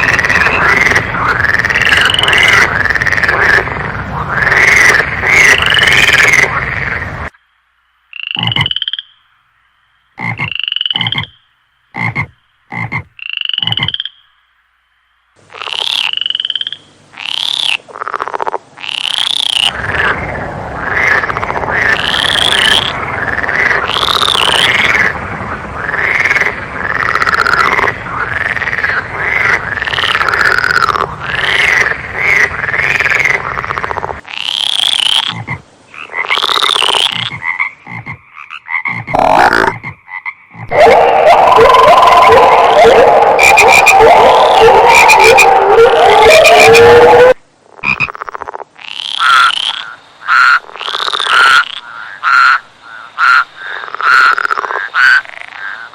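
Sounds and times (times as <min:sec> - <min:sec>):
frogs calling: 0:00.0 - 0:55.9
steady background noise: 0:00.0 - 0:55.9.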